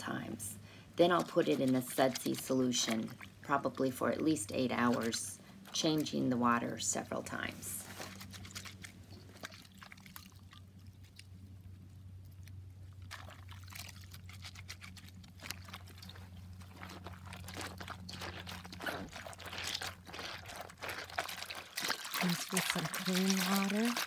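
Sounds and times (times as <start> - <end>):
soapy water sloshing and splashing: 0.0 - 11.6, 12.3 - 24.0
steady low hum: 0.0 - 24.0.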